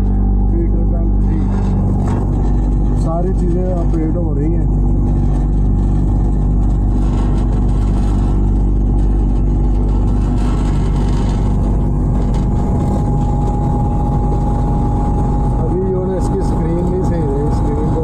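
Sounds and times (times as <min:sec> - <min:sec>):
dehumidifier blower humming: 0:00.0 - 0:18.0.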